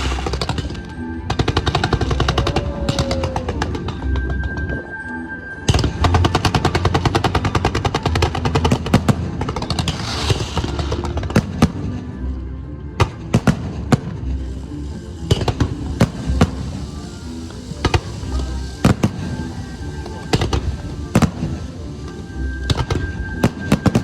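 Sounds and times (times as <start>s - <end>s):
fireworks crackling and banging: 0.0s - 5.0s, 5.6s - 12.2s, 13.0s - 24.0s.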